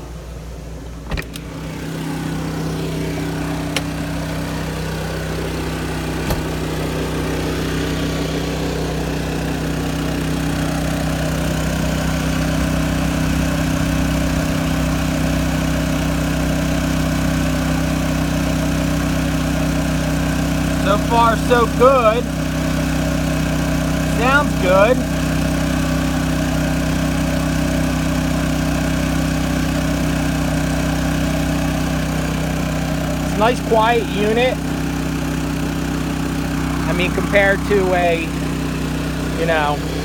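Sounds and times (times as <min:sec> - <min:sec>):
generator running: 0:00.0 - 0:40.0.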